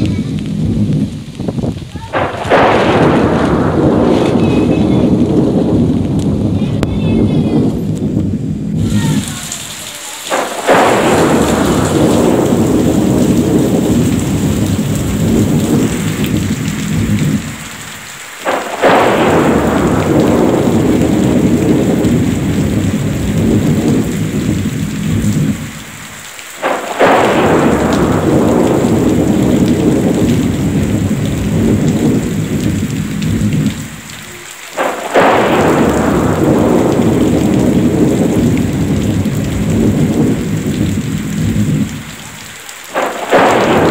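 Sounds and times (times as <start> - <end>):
heavy rain hissing: 0.0 - 43.9
thunderclap rumbling: 0.0 - 43.9.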